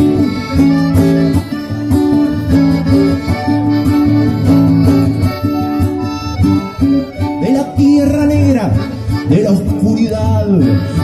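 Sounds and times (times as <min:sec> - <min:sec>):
accordion melody: 0:00.0 - 0:11.0
strummed acoustic guitar: 0:00.0 - 0:11.0.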